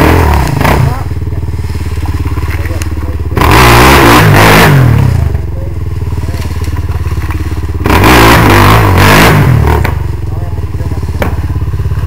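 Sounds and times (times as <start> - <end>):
quad engine revving: 0.0 - 12.0.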